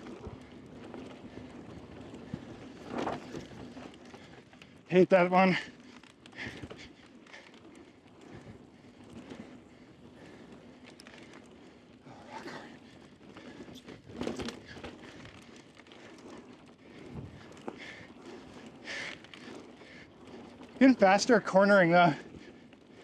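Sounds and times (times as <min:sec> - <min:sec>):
bike rattling: 0:00.0 - 0:23.0.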